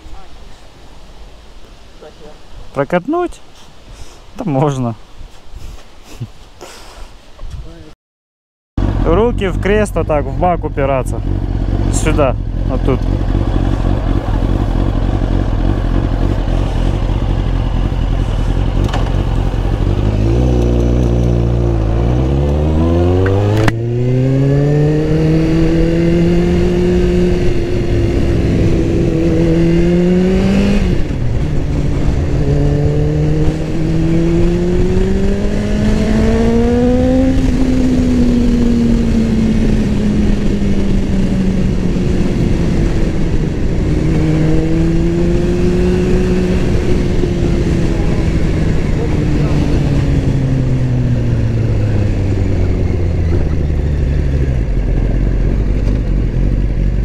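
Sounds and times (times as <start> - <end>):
wind noise: 3.7 - 7.9, 12.6 - 57.0
motorcycle engine accelerating: 8.8 - 57.0.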